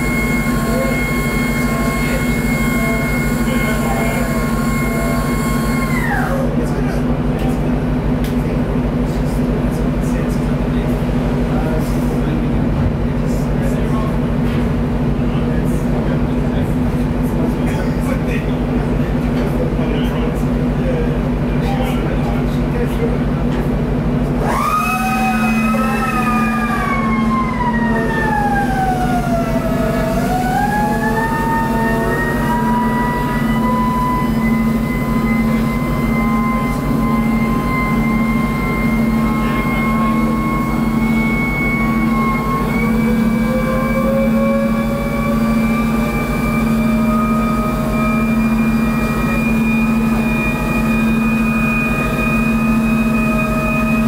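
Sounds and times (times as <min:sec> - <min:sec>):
hydraulic machinery whining: 0:00.0 - 0:18.6, 0:21.6 - 0:54.0
low hum of ship machinery: 0:00.0 - 0:54.0.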